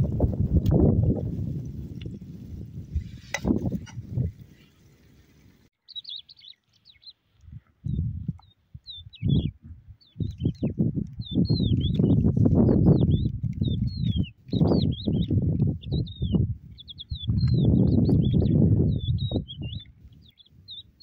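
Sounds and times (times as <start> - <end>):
low rushing wind gusts: 0.0 - 5.6, 7.4 - 21.0
small songbirds chirping: 0.0 - 21.0.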